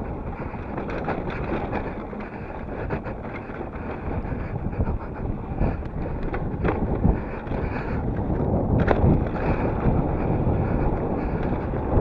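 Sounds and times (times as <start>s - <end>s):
bike rattling over bumps: 0.0s - 12.0s
tyres rumbling over dirt: 0.0s - 12.0s
wind noise on microphone: 0.0s - 12.0s.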